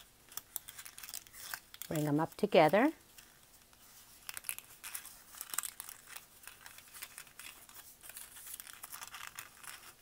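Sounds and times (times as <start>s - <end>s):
paper crinkling: 0.0s - 10.0s.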